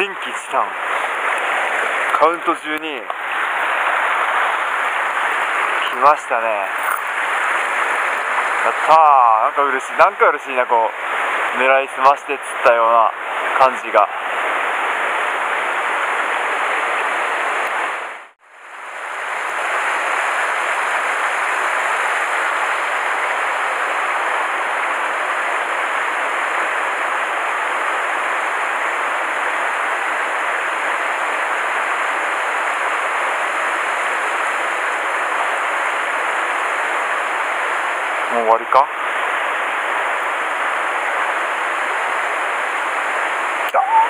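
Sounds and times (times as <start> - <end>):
stream rushing over cascade: 0.0 - 44.0.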